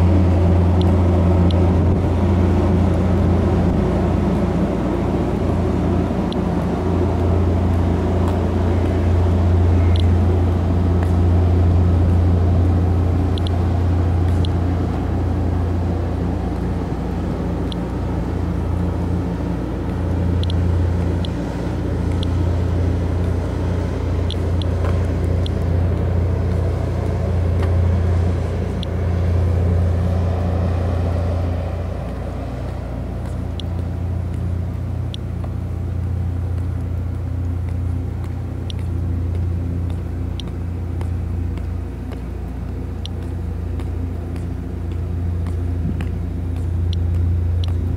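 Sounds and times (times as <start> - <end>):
low diesel engine hum: 0.0 - 47.9.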